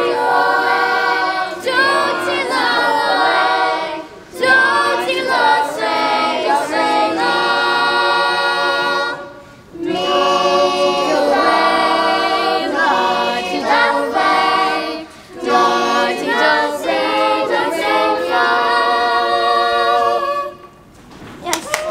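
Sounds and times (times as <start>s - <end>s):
group singing unaccompanied: 0.0s - 20.9s.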